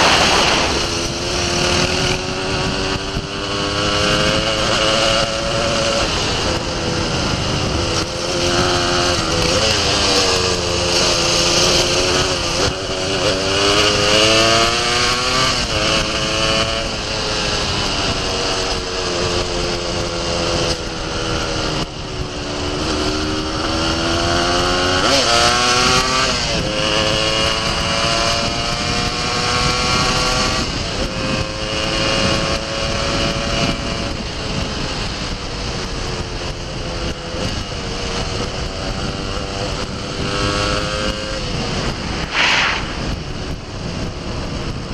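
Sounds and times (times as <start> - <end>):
motorcycle engine: 0.0 - 44.9
wind rush: 0.0 - 44.9.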